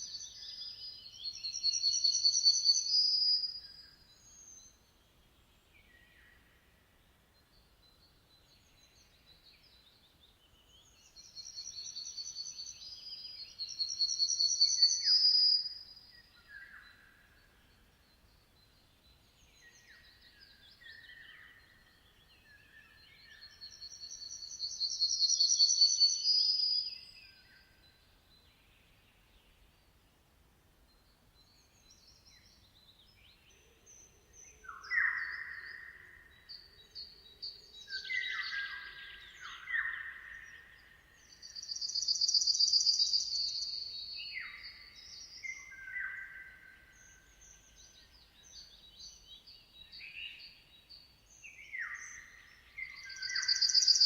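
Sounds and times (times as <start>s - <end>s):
bird chirps and whistled notes: 0.0s - 4.8s, 10.8s - 18.3s, 19.4s - 28.0s, 31.5s - 54.0s
songbird trilled song: 0.0s - 30.0s, 30.8s - 54.0s.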